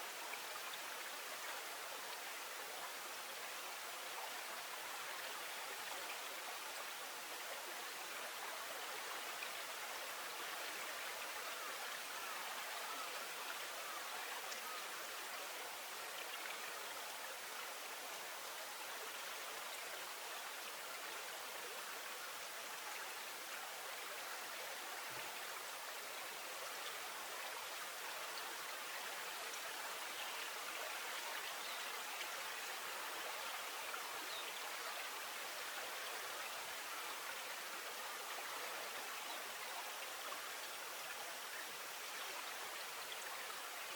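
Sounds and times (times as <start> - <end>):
rush of flowing water: 0.0 - 43.9.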